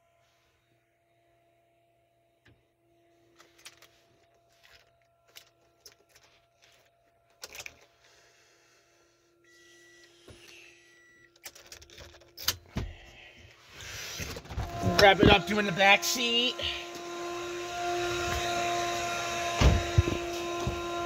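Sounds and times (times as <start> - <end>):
faint steady hum: 0.0 - 17.2.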